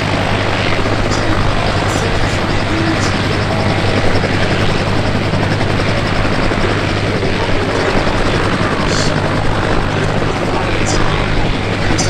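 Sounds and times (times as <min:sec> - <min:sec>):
helicopter rotor and turbine noise: 0:00.0 - 0:12.0.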